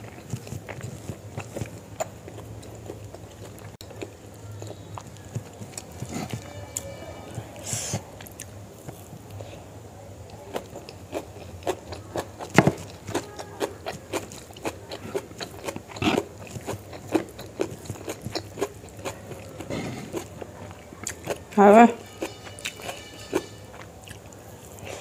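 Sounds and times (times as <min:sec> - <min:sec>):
close-miked chewing: 0:00.0 - 0:25.0.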